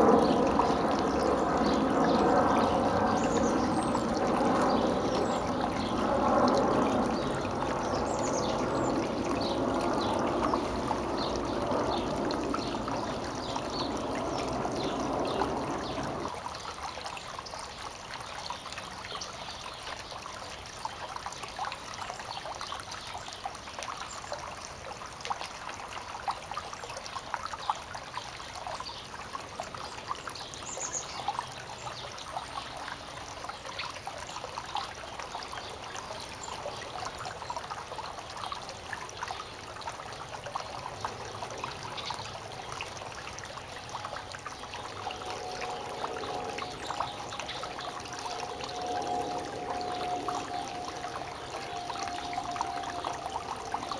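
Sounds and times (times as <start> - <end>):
water trickling down rock fountain: 0.0 - 53.9.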